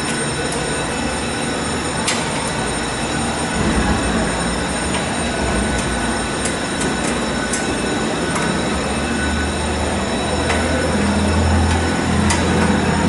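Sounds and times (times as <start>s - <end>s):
loud rushing noise with hum: 2.3s - 13.0s.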